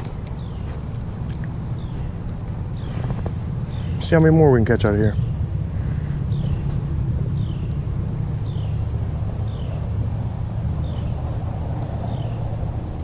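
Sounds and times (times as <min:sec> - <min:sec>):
bird chirping: 0:00.0 - 0:12.5
low rumble: 0:00.0 - 0:13.0.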